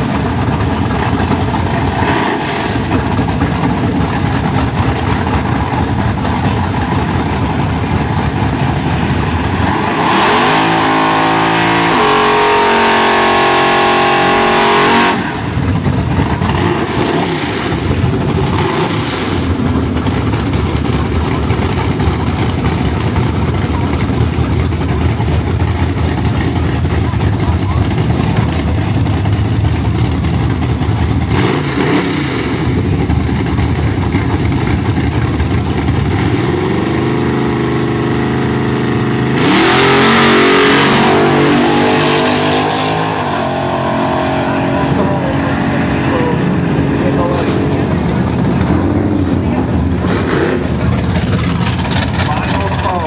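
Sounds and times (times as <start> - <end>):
car engine howling at high revs: 0.0 - 53.0
car engine rumbling: 0.0 - 53.0.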